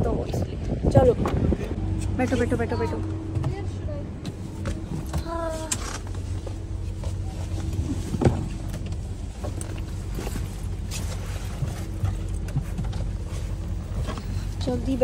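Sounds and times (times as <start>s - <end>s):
people climbing in and rustling: 0.0s - 15.0s
car engine idling: 1.6s - 15.0s.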